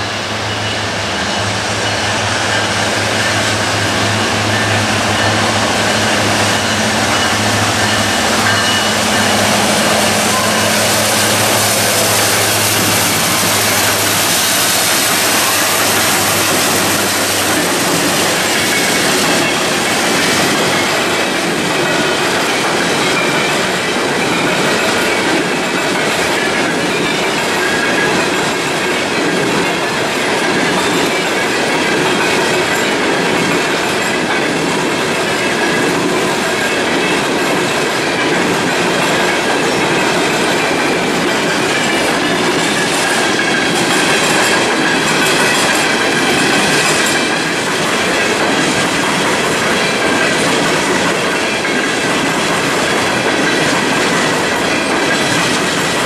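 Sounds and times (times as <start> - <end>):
diesel locomotive engine hum: 0.0 - 56.0
train wheels rumbling on rails: 0.0 - 56.0.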